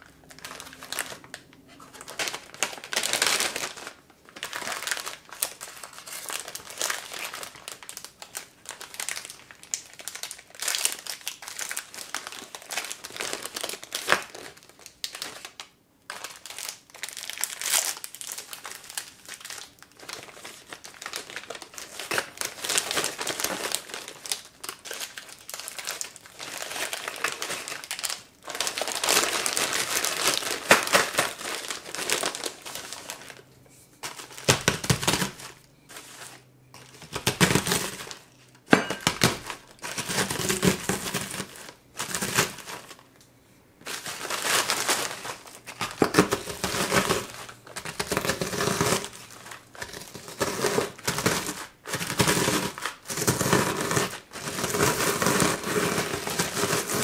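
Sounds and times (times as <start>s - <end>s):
wrappers and plastic bag crinkling: 0.0s - 43.2s, 43.8s - 57.0s.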